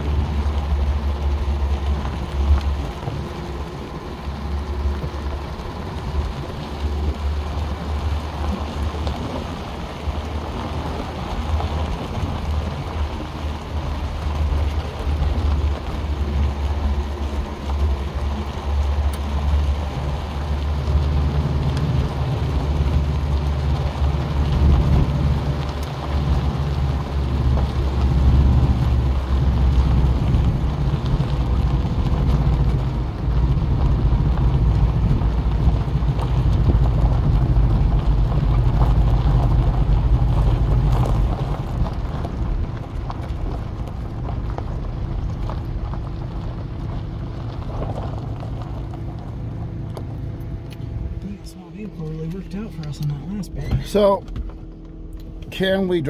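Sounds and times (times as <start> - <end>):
car engine low rumble: 0.0 - 56.0
tyres on gravel: 0.0 - 56.0.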